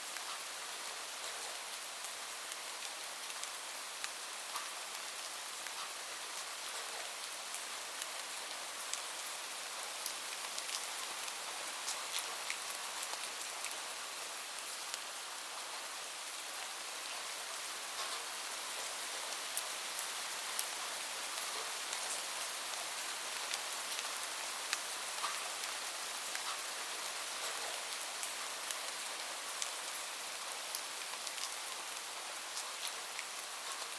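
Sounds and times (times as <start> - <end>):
rain drops ticking on hard surface: 0.1 - 15.1, 15.8 - 33.9.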